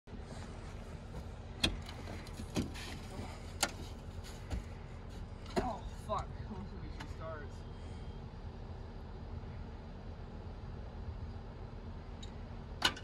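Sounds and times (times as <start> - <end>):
low hum: 0.1 - 13.0.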